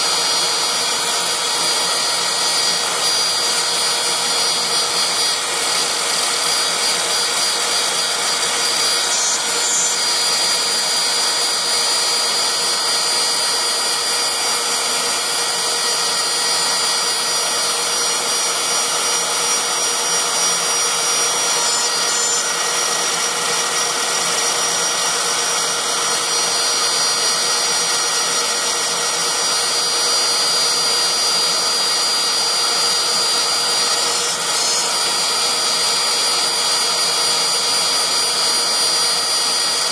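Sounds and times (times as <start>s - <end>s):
router spindle high whine: 0.0s - 39.9s.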